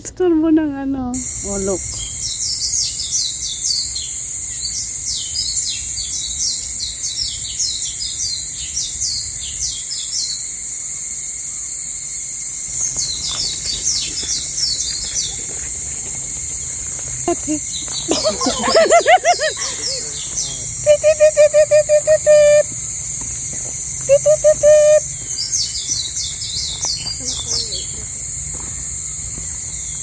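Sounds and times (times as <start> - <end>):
insects droning: 0.0 - 30.0
bird chirping: 1.2 - 10.4, 12.7 - 30.0.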